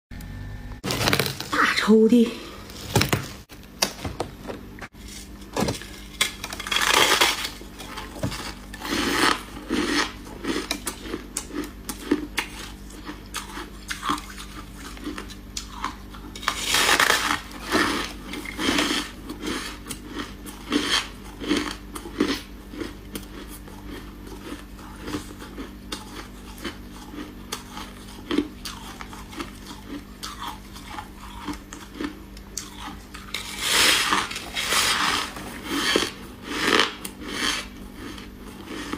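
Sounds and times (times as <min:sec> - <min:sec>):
frost being chewed: 0:06.0 - 0:38.9.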